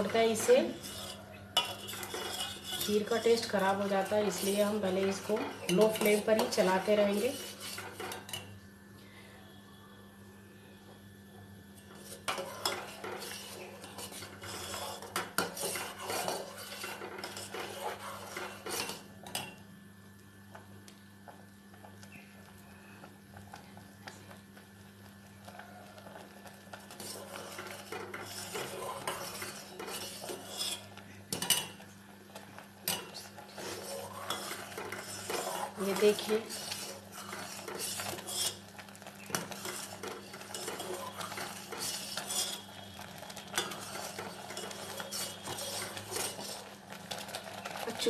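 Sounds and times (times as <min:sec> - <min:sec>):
ladle stirring in a metal pan: 0:00.0 - 0:08.5, 0:11.8 - 0:19.6, 0:25.4 - 0:48.0
faint steady hum: 0:00.0 - 0:46.7.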